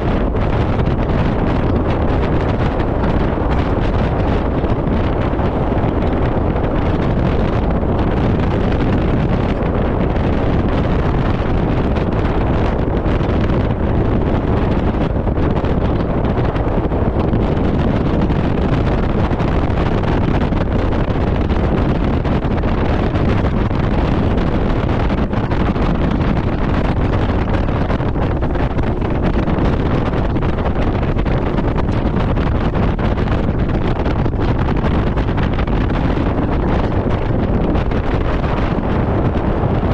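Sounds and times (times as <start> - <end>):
boat motor: 0.0 - 39.9
wind rushing on microphone: 0.0 - 39.9.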